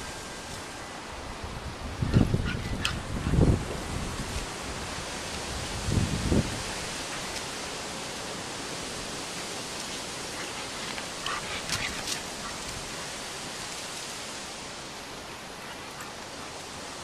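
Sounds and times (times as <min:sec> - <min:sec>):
outdoor background hiss: 0:00.0 - 0:17.0
dog paws crackling dry leaves: 0:02.9 - 0:17.0.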